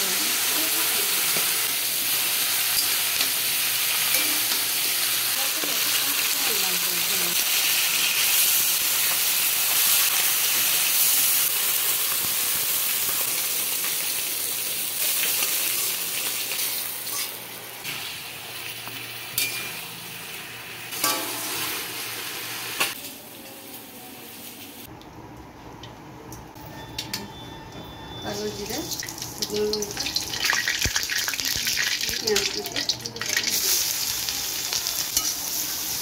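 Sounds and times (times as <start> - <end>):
food sizzling in hot oil: 0.0 - 24.9, 28.3 - 36.0.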